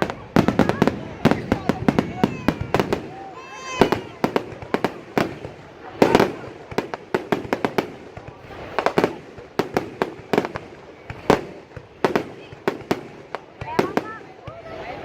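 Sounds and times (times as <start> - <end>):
fireworks sharp bangs: 0.0 - 15.0.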